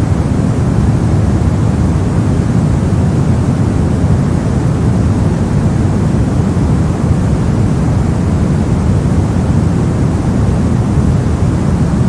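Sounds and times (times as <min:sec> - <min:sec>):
white noise: 0:00.0 - 0:12.0.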